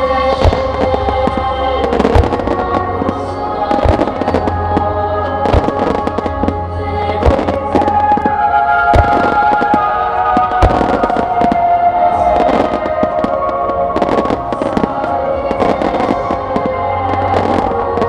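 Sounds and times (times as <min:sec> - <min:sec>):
fireworks booming: 0:00.0 - 0:18.0
fireworks crackling: 0:00.0 - 0:18.0
music: 0:00.0 - 0:18.0.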